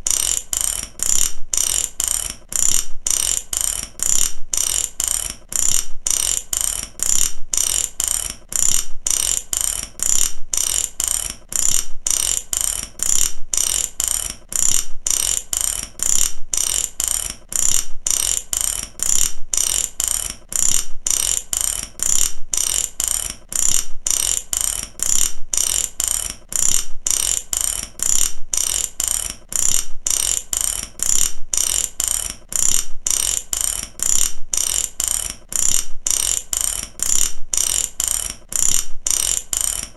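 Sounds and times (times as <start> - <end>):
ratchet wrench clicking: 0.0 - 39.9.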